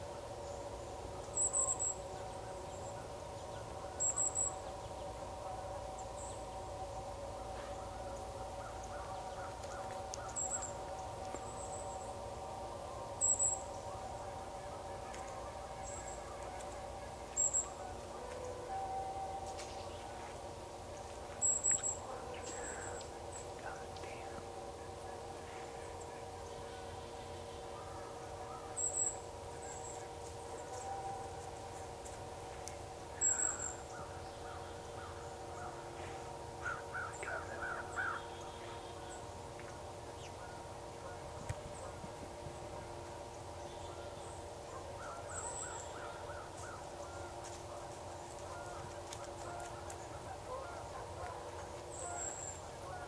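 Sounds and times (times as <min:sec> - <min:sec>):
steady background drone: 0:00.0 - 0:53.0
steady multi-tone hum: 0:00.0 - 0:53.0
faint animal calls: 0:01.1 - 0:39.4, 0:40.0 - 0:53.0.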